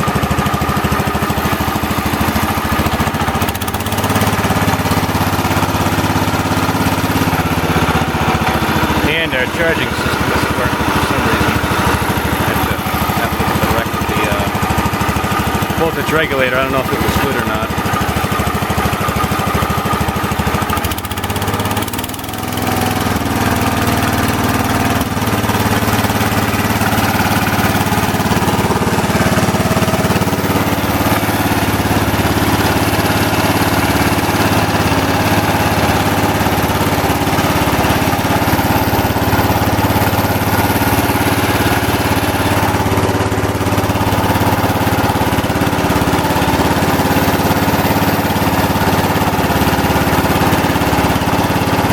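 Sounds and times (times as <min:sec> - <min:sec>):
garden tractor engine running: 0:00.0 - 0:51.9.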